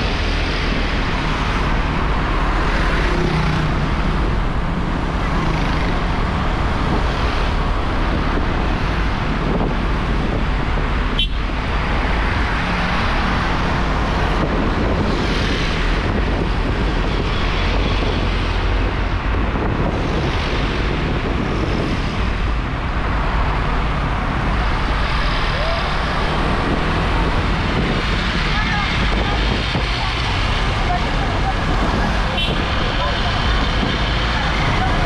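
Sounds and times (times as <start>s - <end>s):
wind rushing on microphone: 0.0s - 35.0s.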